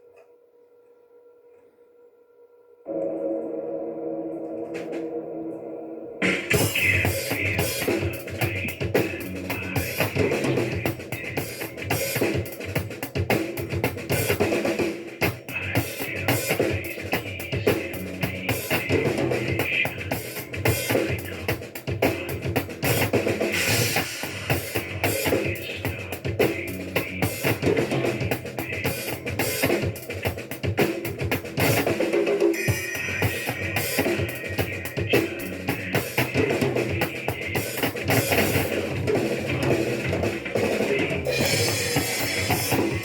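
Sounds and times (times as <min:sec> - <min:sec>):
music with drum kit beat: 0:06.2 - 0:43.0.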